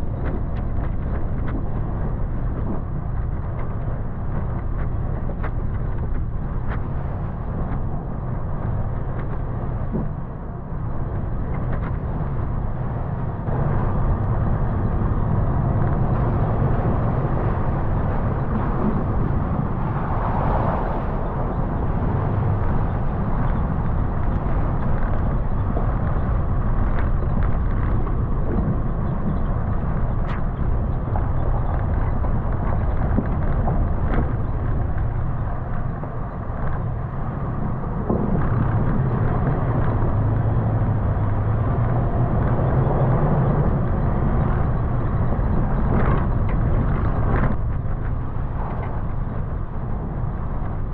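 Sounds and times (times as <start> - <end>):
vehicle engine low rumble: 0.0 - 50.9.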